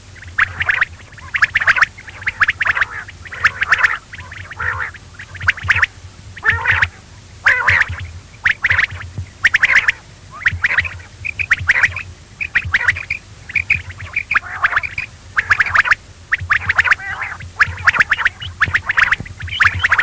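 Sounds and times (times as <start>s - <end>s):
low steady hum: 0.0s - 20.0s
quail calls: 0.0s - 20.0s.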